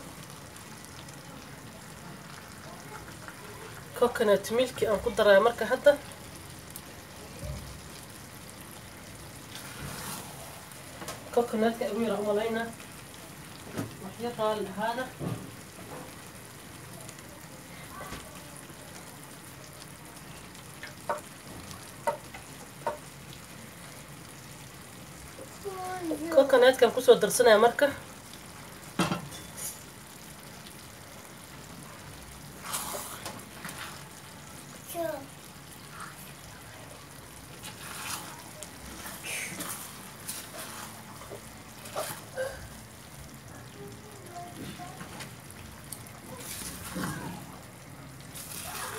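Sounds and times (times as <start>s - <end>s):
curry simmering with low sizzle: 0.0s - 48.9s.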